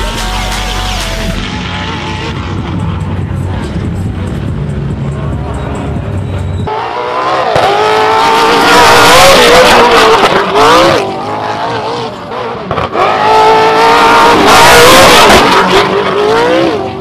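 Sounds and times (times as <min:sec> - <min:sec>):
truck engine at high revs: 0:00.0 - 0:17.0.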